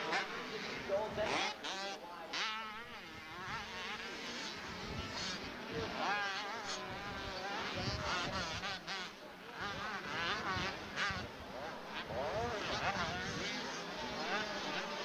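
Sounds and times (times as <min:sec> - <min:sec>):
two-stroke motocross bikes buzzing: 0:00.0 - 0:15.0.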